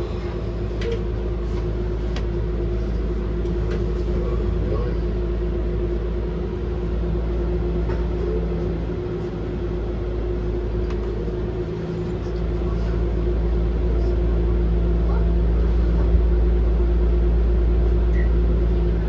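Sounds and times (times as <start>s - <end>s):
train motor hum: 0.0s - 19.0s
train rumble: 0.0s - 19.0s.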